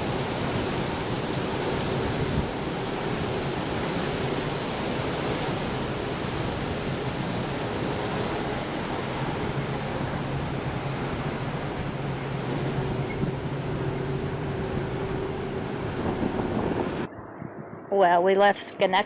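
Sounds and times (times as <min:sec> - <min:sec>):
boat engine humming: 0:00.0 - 0:19.0
wind and water rushing: 0:00.0 - 0:19.0.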